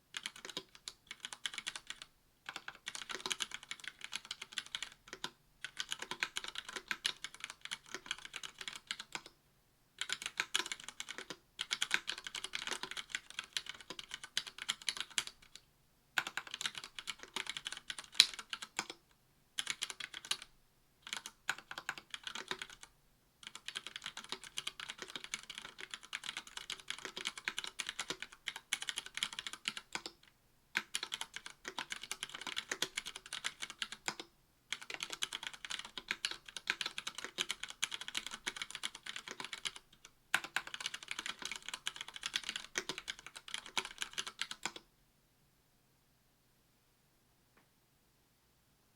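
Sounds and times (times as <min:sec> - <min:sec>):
fast typing on mechanical keyboard: 0:00.2 - 0:09.3, 0:10.0 - 0:15.6, 0:16.2 - 0:19.0, 0:19.6 - 0:30.2, 0:30.8 - 0:44.8.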